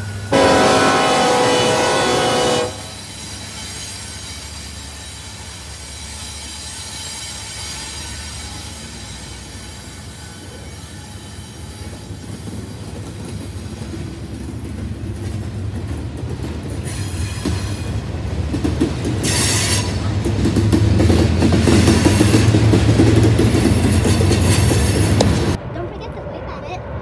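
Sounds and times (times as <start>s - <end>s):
train wheels rumbling and clacking: 0.0s - 27.0s.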